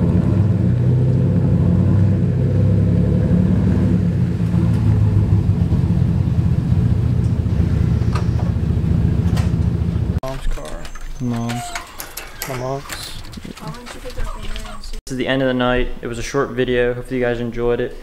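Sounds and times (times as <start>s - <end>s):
pickup truck engines rumbling: 0.0s - 15.0s.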